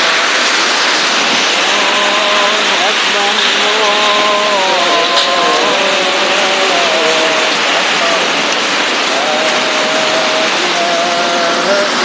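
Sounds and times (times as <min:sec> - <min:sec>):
heavy rain: 0:00.0 - 0:12.0
strong wind: 0:00.0 - 0:12.0
voices: 0:01.5 - 0:12.0.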